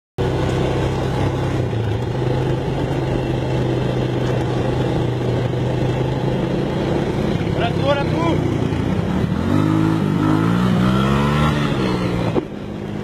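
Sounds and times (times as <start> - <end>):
atv engine running: 0.2 - 13.0.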